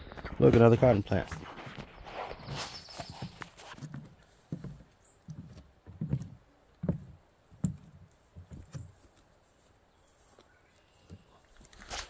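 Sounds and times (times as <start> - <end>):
footsteps through brush: 0.0 - 5.6, 6.9 - 12.0.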